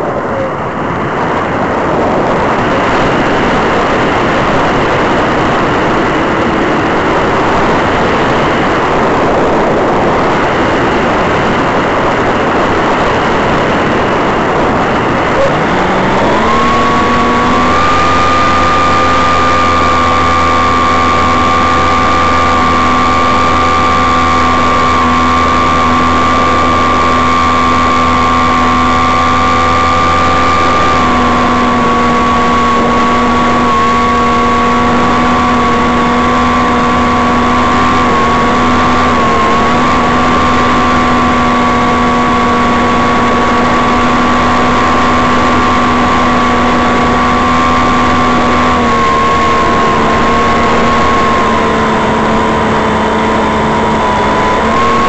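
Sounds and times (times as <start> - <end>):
glider motor and propeller drone: 0.0 - 55.0.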